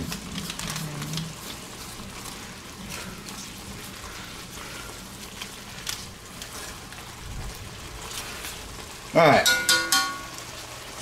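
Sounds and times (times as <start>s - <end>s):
noodles sizzling in a wok: 0.0s - 11.0s.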